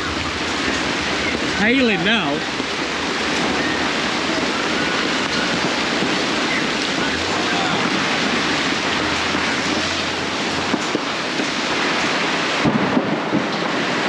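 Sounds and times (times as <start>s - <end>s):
hail and heavy rain: 0.0s - 14.0s
thunder rumble: 0.0s - 14.0s.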